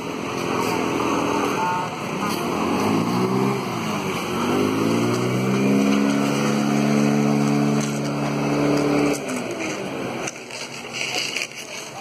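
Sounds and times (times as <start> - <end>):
engine revving up: 0.0 - 10.4.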